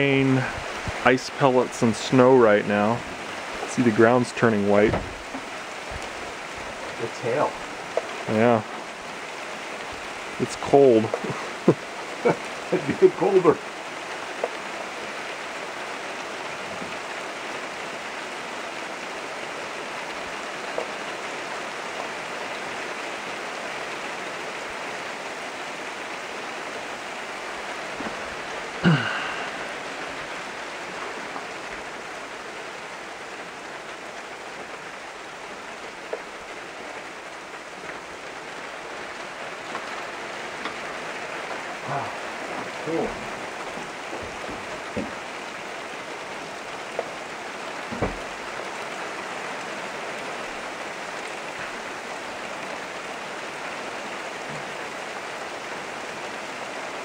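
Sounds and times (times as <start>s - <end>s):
rain and ice pellets falling: 0.0s - 57.0s.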